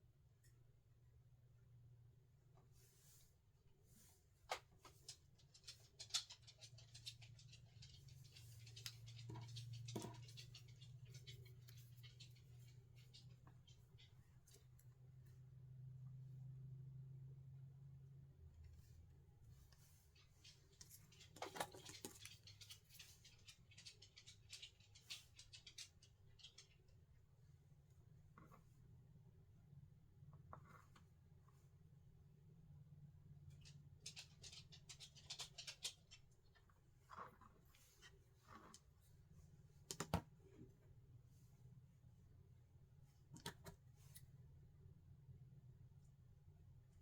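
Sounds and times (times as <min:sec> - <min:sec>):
light clicks and rustles of materials: 0:02.3 - 0:16.6, 0:18.4 - 0:47.0.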